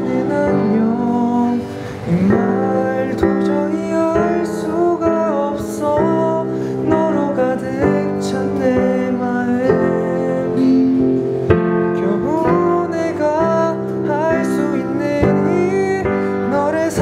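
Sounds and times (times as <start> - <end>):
digital piano chords: 0.0 - 17.0
man singing a slow ballad: 0.0 - 17.0.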